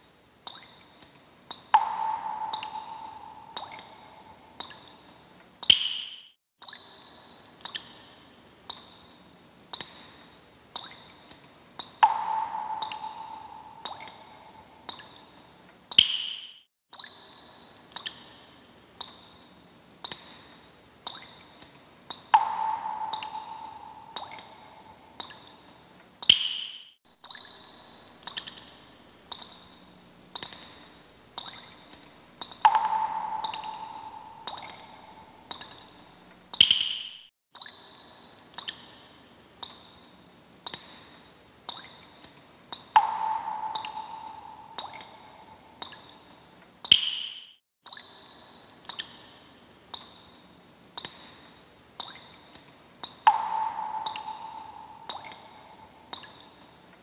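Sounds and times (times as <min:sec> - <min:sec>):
water drops plinking: 0:00.4 - 0:09.1, 0:09.7 - 0:10.2, 0:10.8 - 0:40.0, 0:40.6 - 0:50.3, 0:51.0 - 0:56.8.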